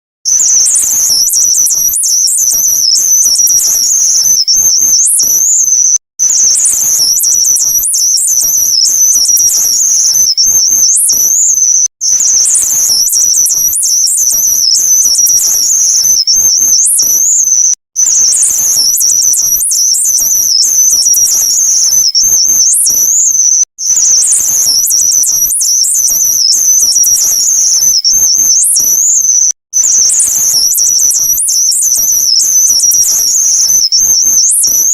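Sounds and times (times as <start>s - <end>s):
warbling electronic beep tone: 0.3s - 34.9s.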